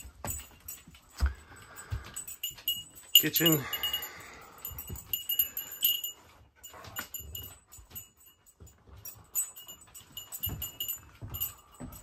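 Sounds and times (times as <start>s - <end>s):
dog collar tags jingling: 0.0s - 12.0s.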